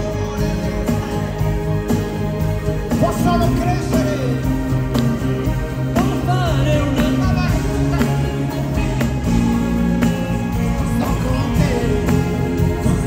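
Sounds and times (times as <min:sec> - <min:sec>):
gliding lead melody: 0:00.0 - 0:13.0
live band playing pop ballad: 0:00.0 - 0:13.0
sustained bass notes: 0:00.0 - 0:13.0.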